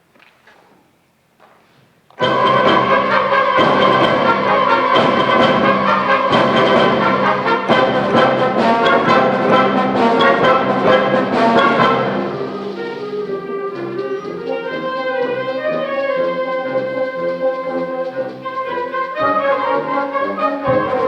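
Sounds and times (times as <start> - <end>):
brass instruments: 2.2 - 21.0
concert band playing: 2.2 - 21.0.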